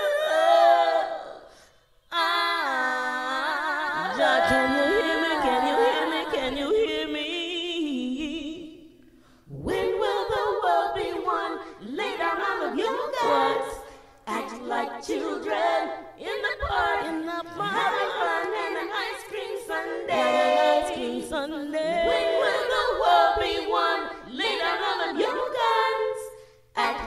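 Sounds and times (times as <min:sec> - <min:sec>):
a cappella vocal harmony: 0:00.0 - 0:27.0.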